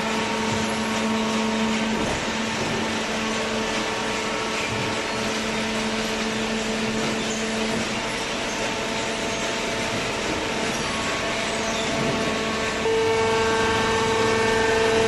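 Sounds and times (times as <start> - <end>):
hydraulic baler humming: 0.0 - 15.0.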